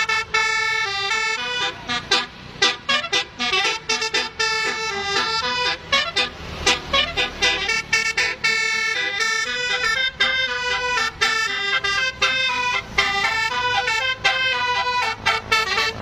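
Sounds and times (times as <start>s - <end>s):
musical horn playing a melody: 0.0s - 16.0s.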